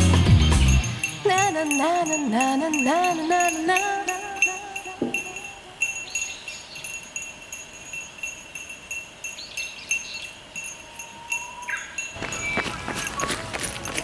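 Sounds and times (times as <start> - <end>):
small metal bell jingling: 0.0 - 14.0.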